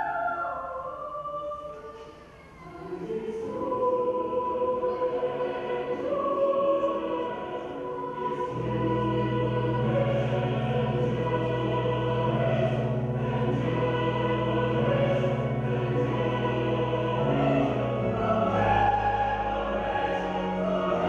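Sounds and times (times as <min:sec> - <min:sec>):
choir singing held chords: 0:00.0 - 0:21.0.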